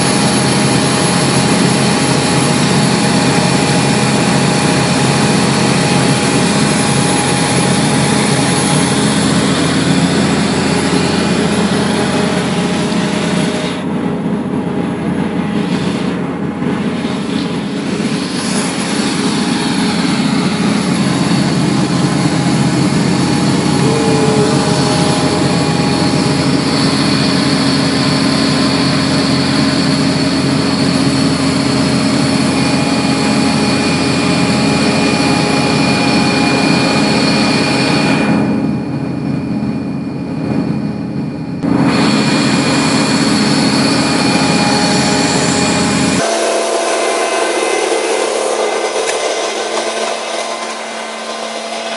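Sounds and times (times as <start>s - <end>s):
air compressor running: 0.0s - 51.9s.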